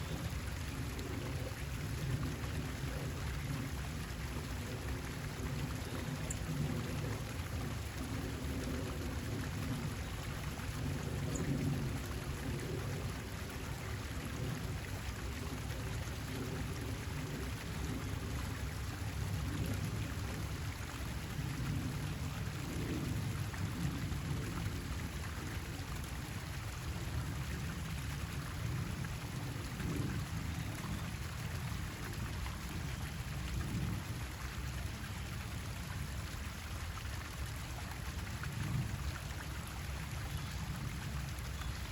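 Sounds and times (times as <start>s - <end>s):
rushing outdoor noise: 0.0s - 41.9s.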